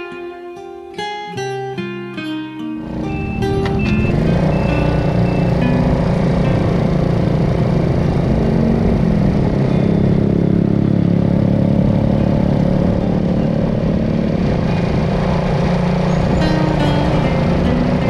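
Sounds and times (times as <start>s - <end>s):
road noise: 2.6s - 18.0s
moped engine running: 2.8s - 18.0s.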